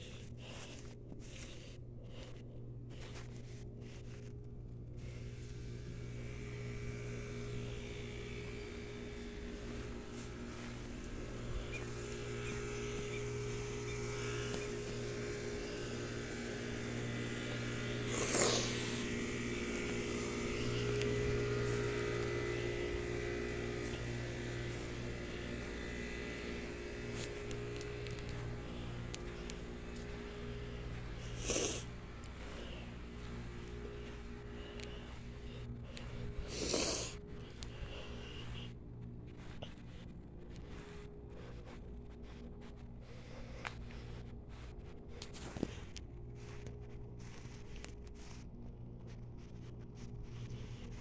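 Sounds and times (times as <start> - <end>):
condenser unit humming: 0.0 - 51.0.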